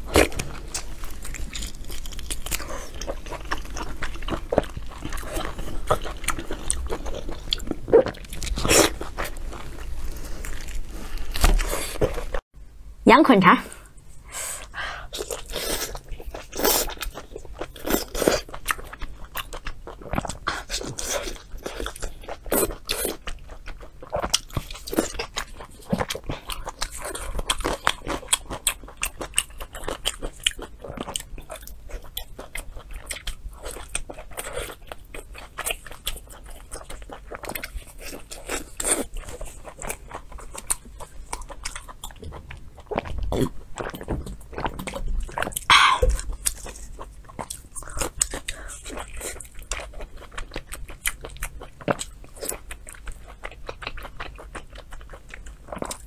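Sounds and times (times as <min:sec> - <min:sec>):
person biting and chewing food: 0:00.0 - 0:12.4, 0:15.1 - 0:56.0.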